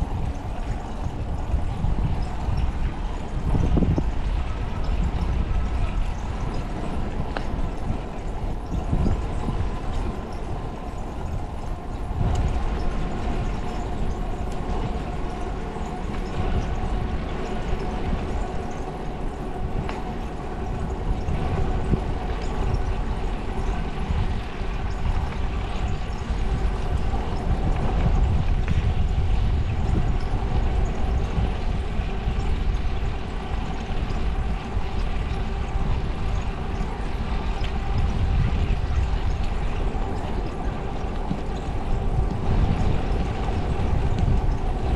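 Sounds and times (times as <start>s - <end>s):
faint steady hum: 0.0s - 44.9s
wind rumbling on microphone: 0.0s - 44.9s.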